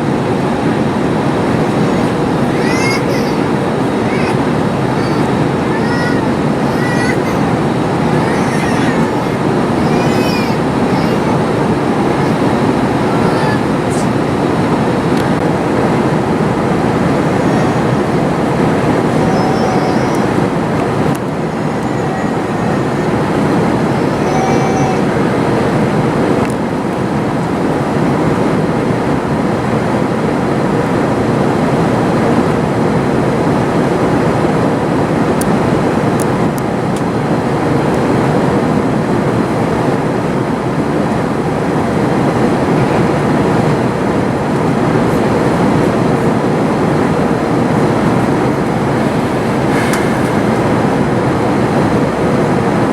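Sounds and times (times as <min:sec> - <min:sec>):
airflow over fuselage: 0:00.0 - 0:52.9
airplane engine noise: 0:00.0 - 0:52.9.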